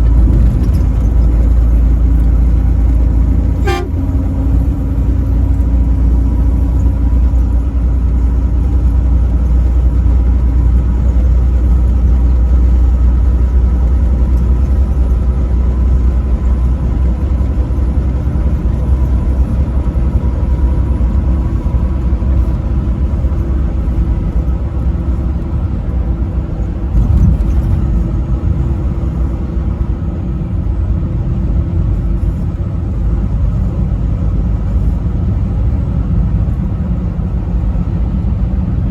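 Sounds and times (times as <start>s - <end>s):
truck engine and road rumble: 0.0s - 38.9s.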